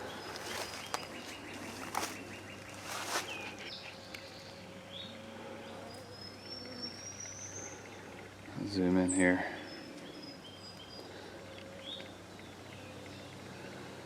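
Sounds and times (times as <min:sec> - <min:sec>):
birds chirping and whistling: 0:00.0 - 0:13.4.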